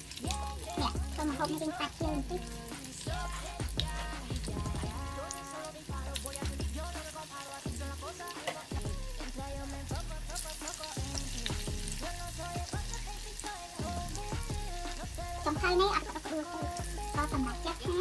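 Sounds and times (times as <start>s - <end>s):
tofu sizzling in hot oil: 0.0s - 18.0s.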